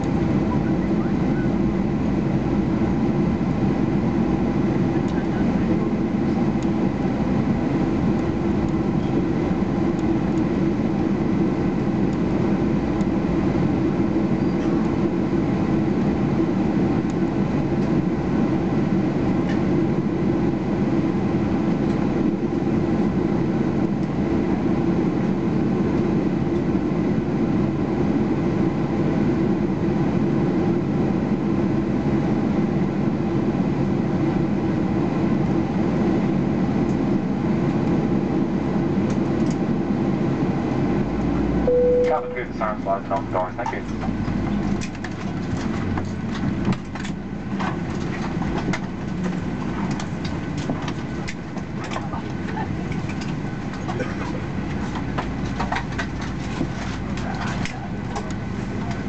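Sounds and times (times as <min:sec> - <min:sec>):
jet engines idling drone: 0:00.0 - 0:59.0.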